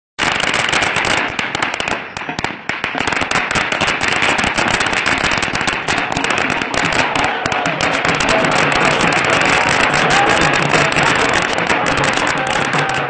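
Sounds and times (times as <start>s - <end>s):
firecrackers banging and crackling: 0.2s - 13.0s.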